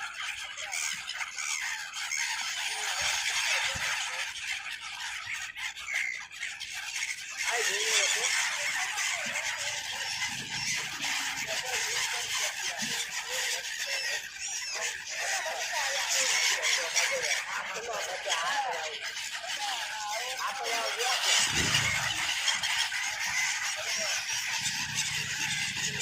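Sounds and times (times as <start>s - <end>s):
flock of waterbirds calling: 0.0s - 26.0s
lower louder bird calls: 0.0s - 26.0s.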